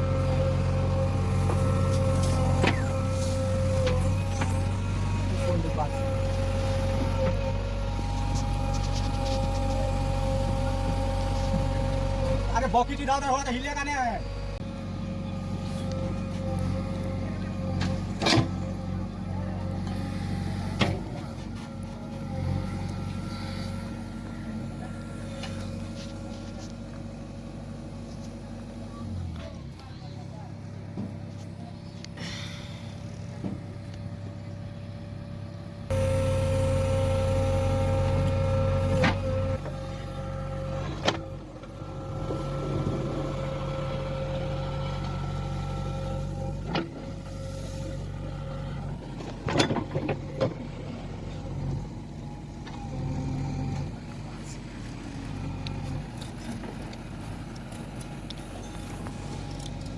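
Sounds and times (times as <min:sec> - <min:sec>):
hydraulic whine: 0:00.0 - 0:28.4, 0:35.9 - 0:59.9
diesel engine running: 0:00.0 - 0:59.9.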